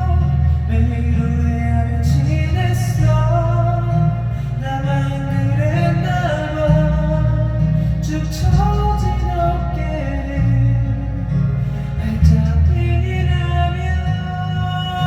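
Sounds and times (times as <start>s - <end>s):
instrumental accompaniment with bass: 0.0s - 15.0s.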